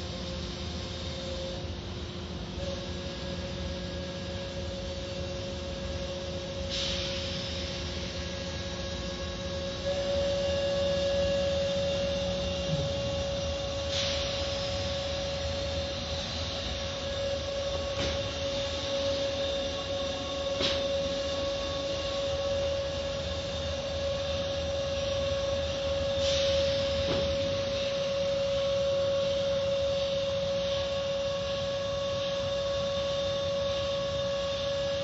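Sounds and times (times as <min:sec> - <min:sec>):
car wash machinery humming: 0:00.0 - 0:35.0.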